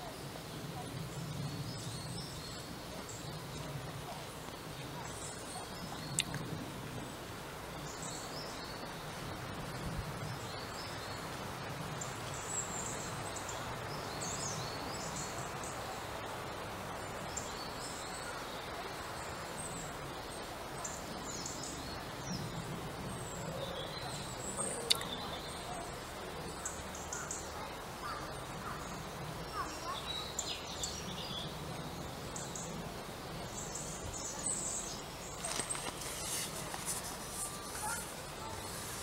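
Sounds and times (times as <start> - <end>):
outdoor background noise: 0.0 - 39.0
small birds chirping: 0.0 - 39.0.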